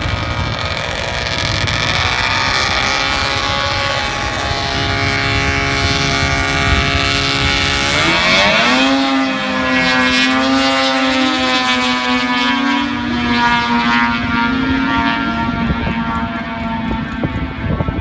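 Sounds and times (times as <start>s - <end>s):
engines accelerating away: 0.0s - 18.0s.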